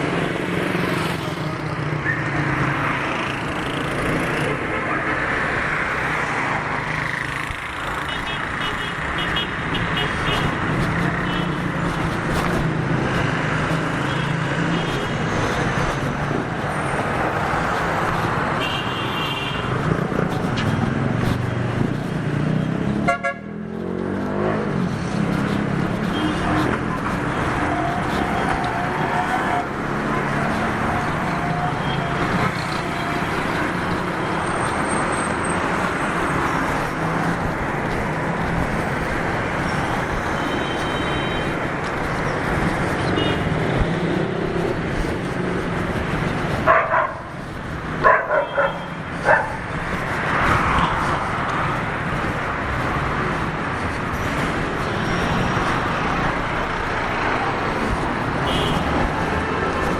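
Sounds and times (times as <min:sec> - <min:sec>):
street traffic: 0:00.0 - 0:59.9.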